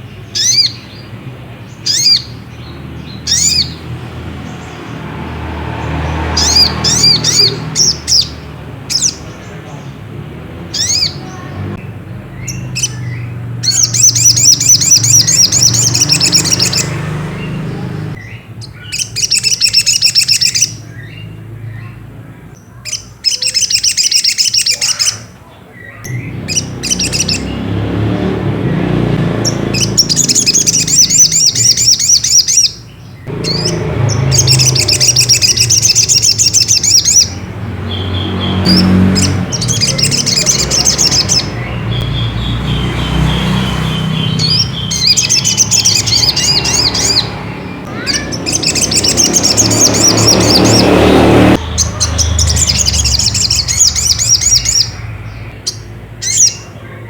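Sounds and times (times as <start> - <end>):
bird trilling: 0.0 - 10.0, 10.6 - 57.0
sharp bird chips: 0.0 - 10.0, 10.7 - 22.0, 22.6 - 25.3, 25.9 - 56.8.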